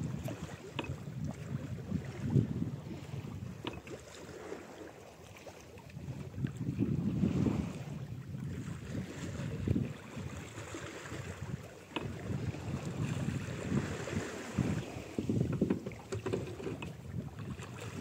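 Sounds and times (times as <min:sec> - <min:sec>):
wind on microphone: 0:00.0 - 0:04.8, 0:05.8 - 0:18.0
water lapping against boat hull: 0:00.0 - 0:18.0.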